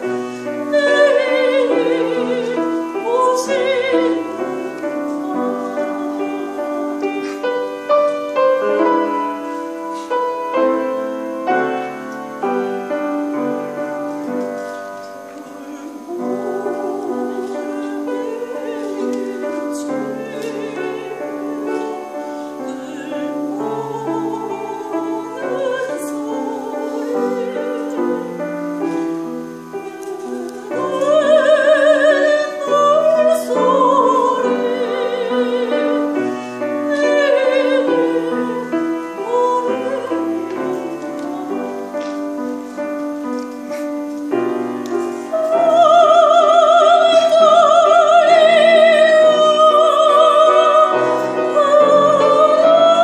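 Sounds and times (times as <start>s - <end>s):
piano playing: 0.0s - 53.0s
soprano singing with vibrato: 0.0s - 53.0s.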